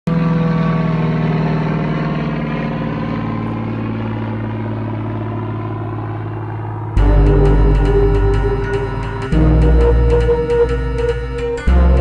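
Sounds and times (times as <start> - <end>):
motorcycle engine idling: 0.2 - 12.0.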